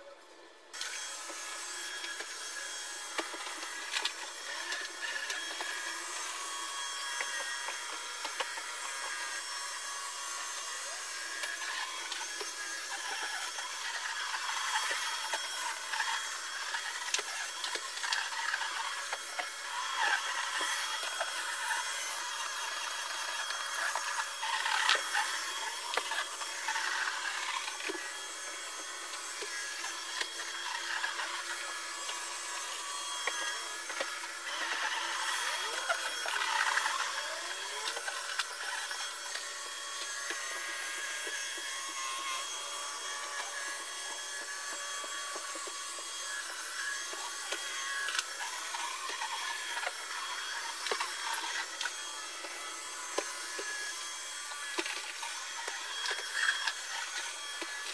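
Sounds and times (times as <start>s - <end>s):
vacuum cleaner whining: 0.0s - 57.9s.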